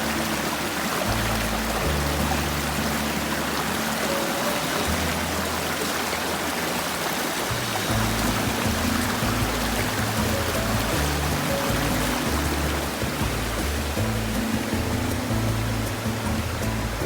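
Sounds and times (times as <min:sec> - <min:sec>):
background music with held notes: 0:00.0 - 0:17.0
mountain stream rushing: 0:00.0 - 0:17.0.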